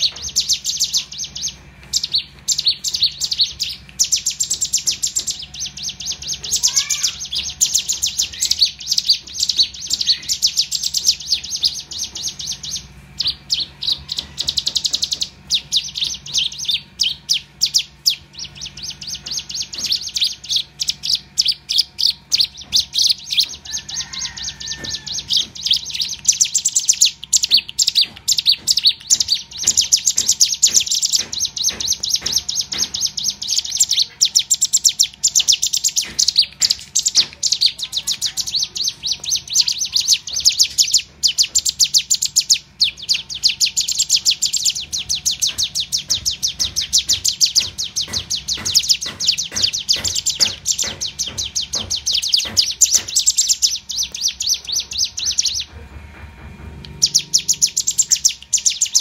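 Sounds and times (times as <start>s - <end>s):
bird giving ticking chirps: 0.0s - 55.8s, 56.8s - 59.0s.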